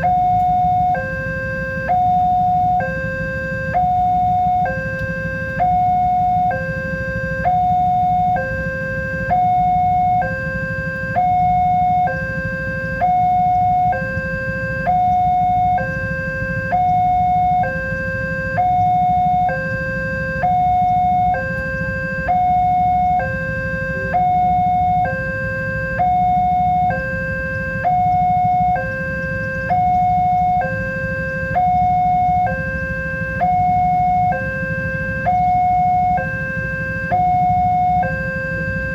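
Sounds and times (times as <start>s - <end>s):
two-tone crossing alarm: 0.0s - 38.9s.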